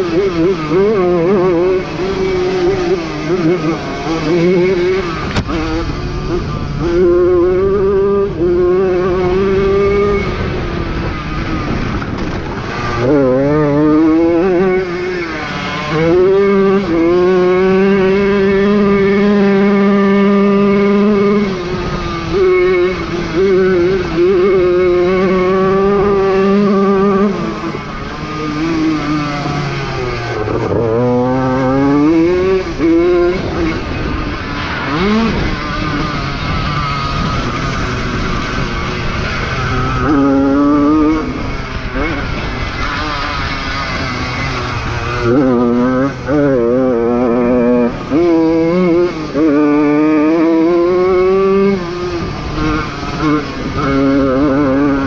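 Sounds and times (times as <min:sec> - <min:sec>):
moped engine revving: 0:00.0 - 0:55.0.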